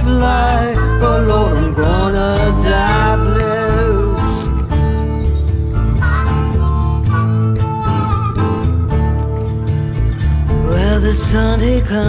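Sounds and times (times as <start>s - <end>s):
acoustic guitar strumming: 0.0s - 12.0s
bass line: 0.0s - 12.0s.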